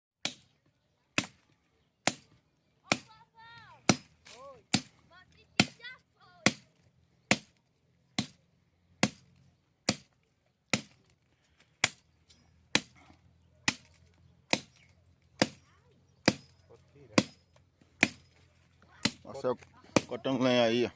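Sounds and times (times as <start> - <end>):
axe chopping firewood: 0.2 - 20.3.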